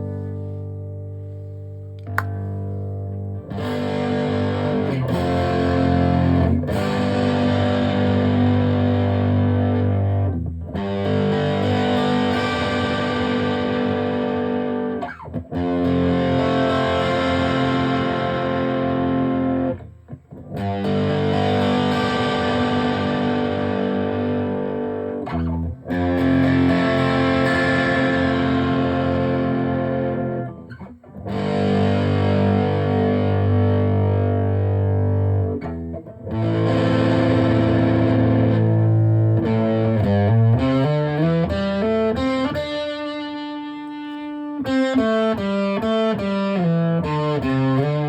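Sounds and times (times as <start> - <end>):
distorted electric guitar chords: 0.0 - 48.0.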